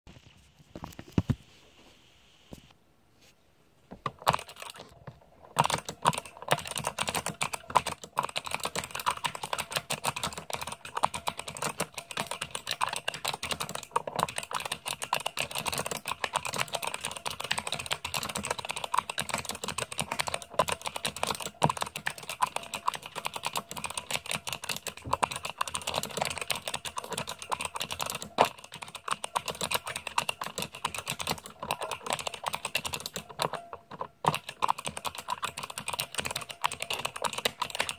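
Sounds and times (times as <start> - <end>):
fast typing on mechanical keyboard: 4.0 - 37.9.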